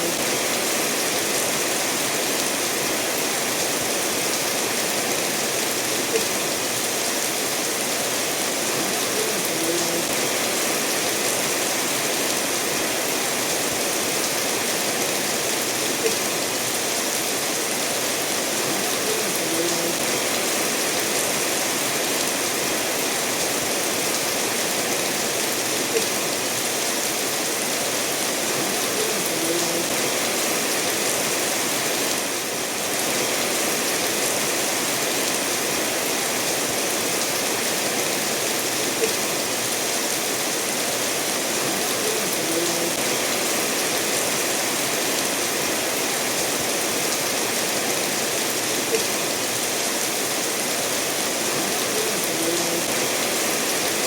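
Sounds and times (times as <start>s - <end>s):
steady rain: 0.0s - 54.0s
stream running over stones: 0.0s - 54.0s.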